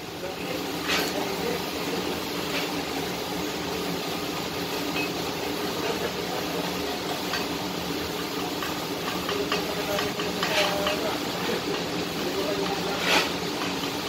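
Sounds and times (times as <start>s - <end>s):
welding torch flame hissing: 0.0s - 14.0s.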